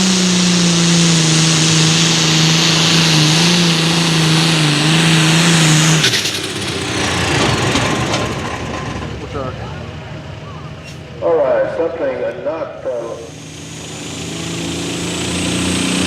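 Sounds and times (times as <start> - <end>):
tractor engine running flat out: 0.0 - 16.0.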